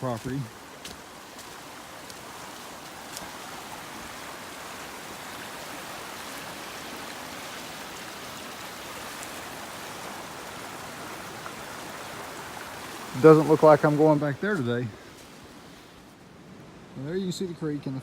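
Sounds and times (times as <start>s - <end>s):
creek rushing over a ford: 0.0s - 16.1s.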